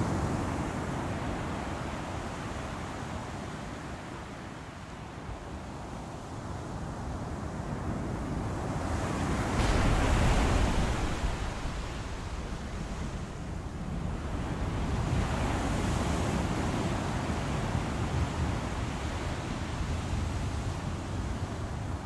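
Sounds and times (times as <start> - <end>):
waves surging and breaking: 0.0 - 22.0
wind: 0.0 - 22.0.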